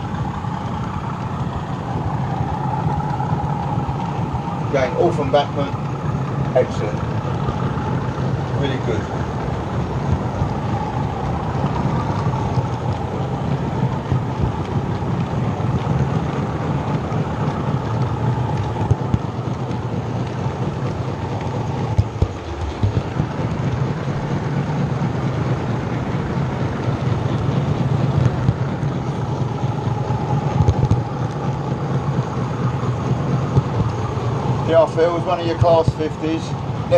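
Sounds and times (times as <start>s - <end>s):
locomotive whine: 0.0s - 36.9s
model train motor hum: 0.0s - 36.9s.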